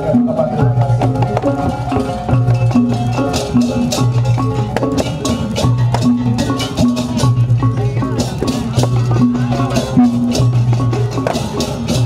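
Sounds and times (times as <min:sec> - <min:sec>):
mallet instrument notes: 0:00.0 - 0:12.0
sharp percussive strokes: 0:00.0 - 0:12.0.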